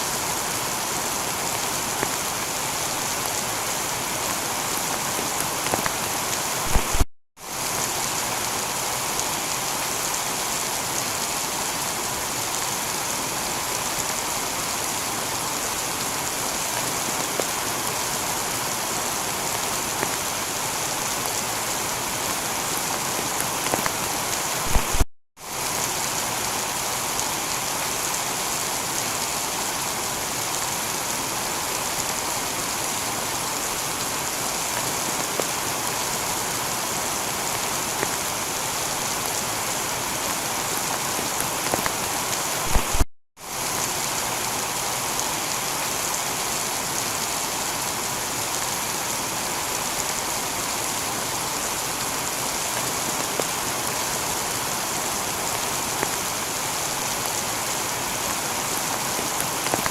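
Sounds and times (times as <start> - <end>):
heavy rain on a tiled roof: 0.0 - 59.9.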